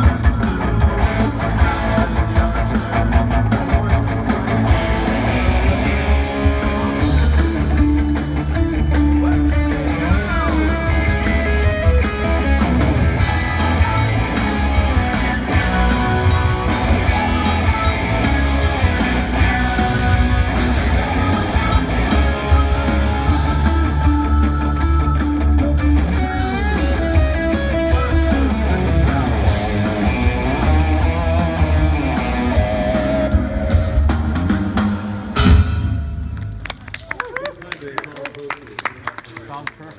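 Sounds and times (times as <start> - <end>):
rock band playing live: 0.0 - 37.2.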